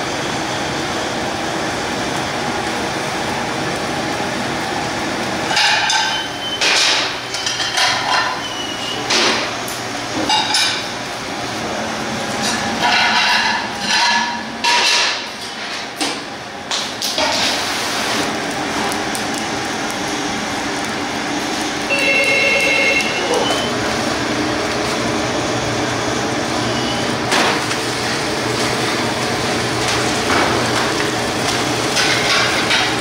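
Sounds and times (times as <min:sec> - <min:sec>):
steady background noise: 0:00.0 - 0:33.0.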